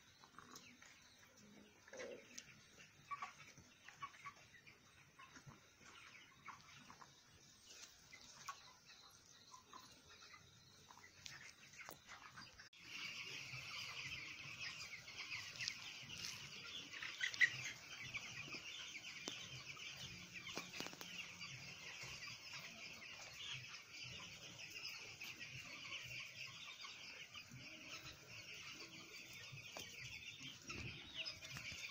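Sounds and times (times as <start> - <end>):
chickens calling: 0.0 - 31.9.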